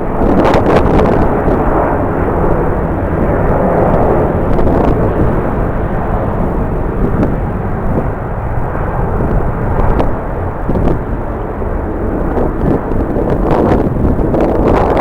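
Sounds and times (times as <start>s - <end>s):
jet engine noise: 0.0s - 15.0s
wind buffeting microphone: 0.0s - 15.0s.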